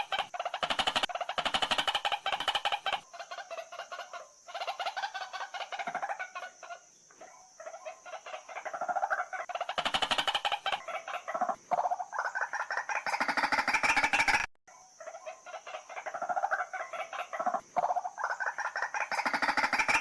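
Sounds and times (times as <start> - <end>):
waterhen pulsed croaking calls: 0.0 - 20.0.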